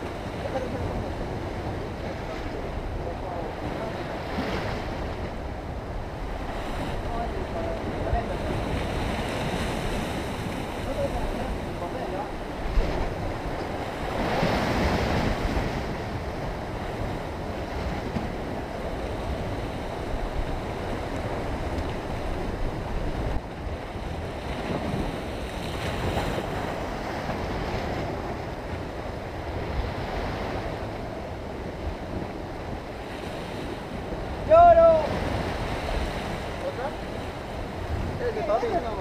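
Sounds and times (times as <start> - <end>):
wind rumbling on microphone: 0.0 - 39.0
surf breaking on rocks: 6.2 - 39.0.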